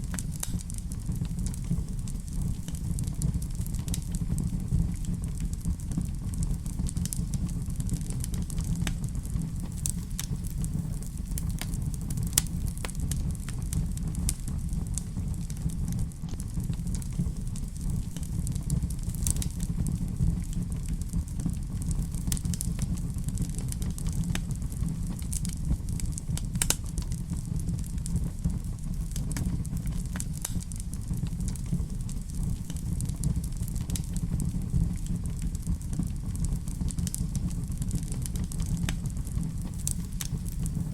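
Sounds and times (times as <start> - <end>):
burning logs crackling and popping: 0.0 - 40.9
rumble of flames: 0.0 - 40.9.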